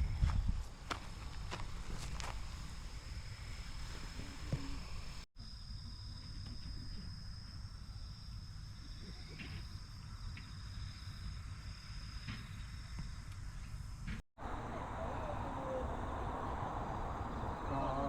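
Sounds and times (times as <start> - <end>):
insects chirring: 1.0 - 18.0.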